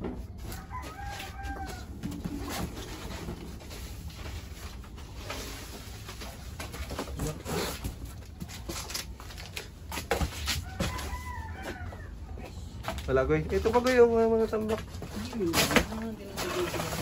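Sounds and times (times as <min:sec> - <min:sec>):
cardboard rustling and scraping: 0:00.0 - 0:12.0, 0:13.5 - 0:17.0.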